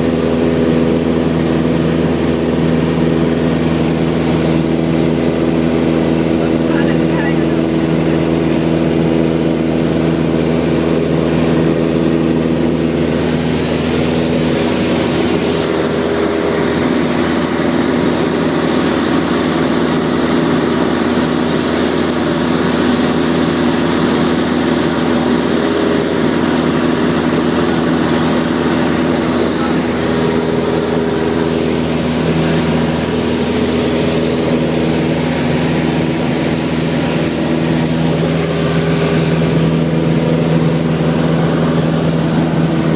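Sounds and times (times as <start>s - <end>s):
aircraft engine and propeller droning: 0.0s - 42.9s.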